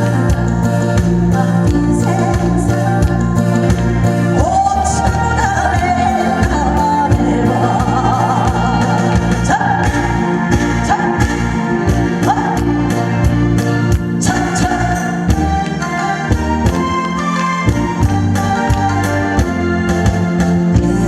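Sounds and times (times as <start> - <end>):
person singing: 0.0 - 13.4, 14.2 - 19.6
band playing steady beat: 0.0 - 21.0.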